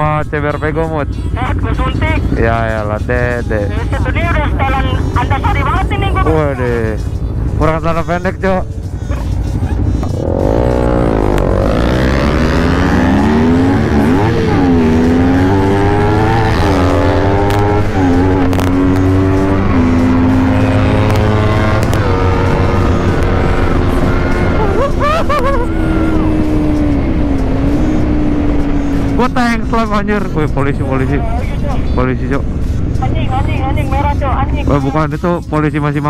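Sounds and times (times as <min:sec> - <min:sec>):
motorcycle accelerating: 0:00.0 - 0:36.0.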